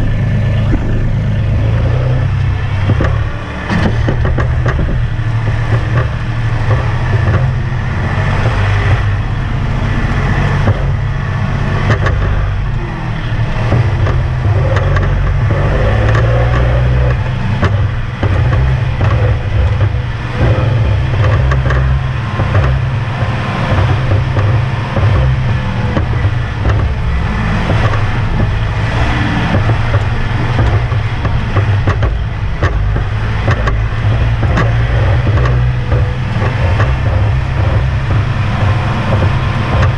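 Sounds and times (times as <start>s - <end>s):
rattles and knocks: 0.0s - 39.9s
tractor diesel engine running: 0.0s - 39.9s.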